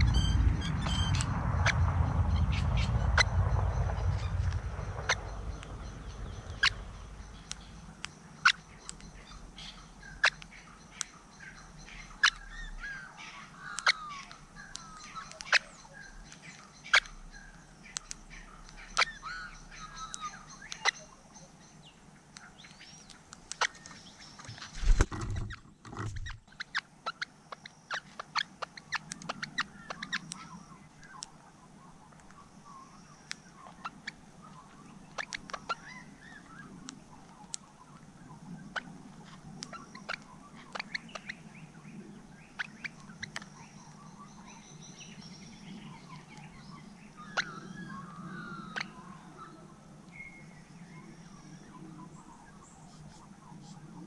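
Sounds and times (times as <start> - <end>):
soft chattering bird chirps: 0.0 - 49.6.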